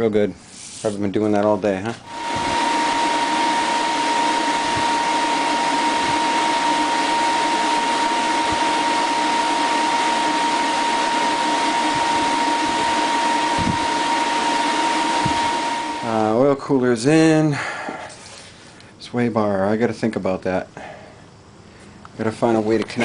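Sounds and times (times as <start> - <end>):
thin whine: 0.0 - 23.0.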